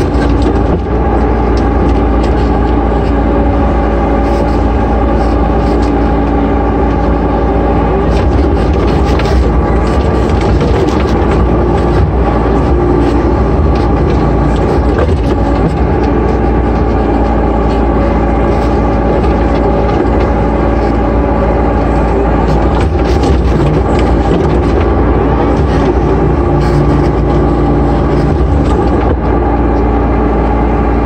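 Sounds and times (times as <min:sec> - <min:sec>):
excavator engine and hydraulics: 0:00.0 - 0:31.0.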